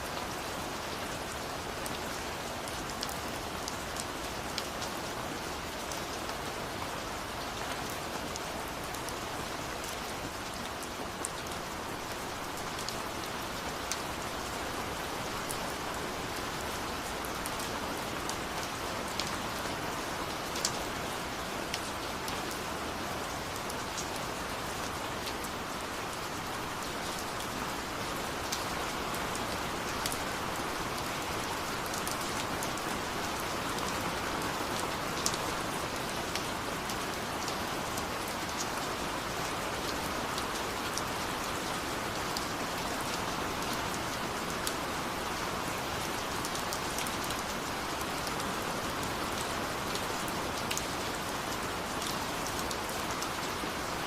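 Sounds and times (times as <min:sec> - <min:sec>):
raindrops ticking on a surface: 0:00.1 - 0:53.8.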